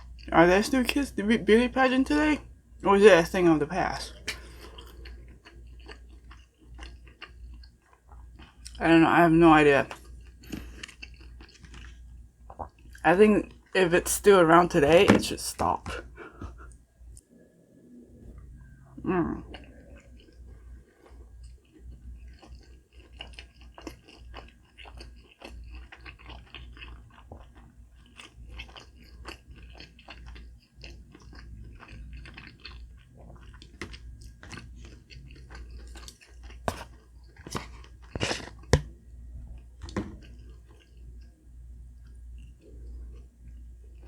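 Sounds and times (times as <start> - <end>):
close chewing and crunching: 0.0 - 13.8, 18.3 - 44.0.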